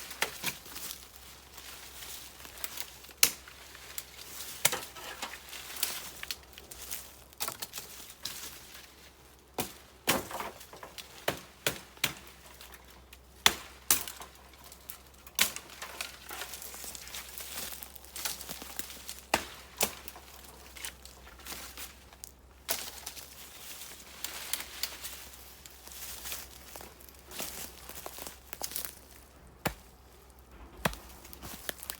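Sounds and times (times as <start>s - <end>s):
dry leaves and twigs rustling: 0.0s - 31.9s
dry wood cracking and snapping: 0.0s - 31.9s.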